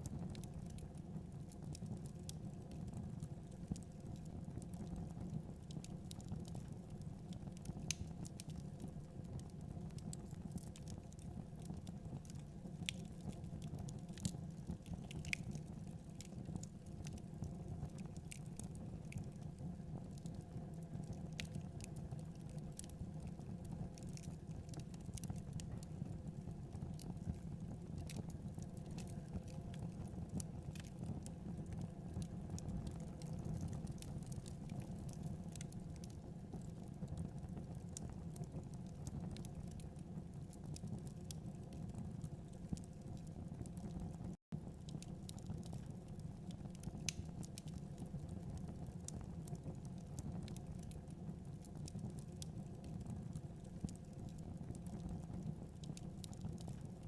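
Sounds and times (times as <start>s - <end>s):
low rumble of burning: 0.0s - 57.0s
wood fire crackling: 0.0s - 57.0s.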